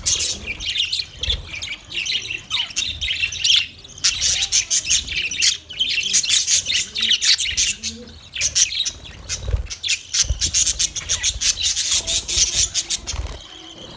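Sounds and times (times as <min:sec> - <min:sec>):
parrots chirping and squawking: 0:00.0 - 0:13.9.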